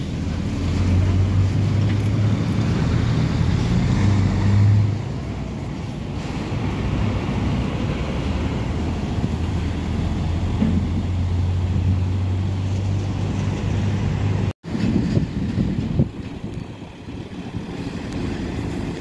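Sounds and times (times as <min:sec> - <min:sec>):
road noise: 0:00.0 - 0:19.0
truck diesel engine droning: 0:00.0 - 0:19.0.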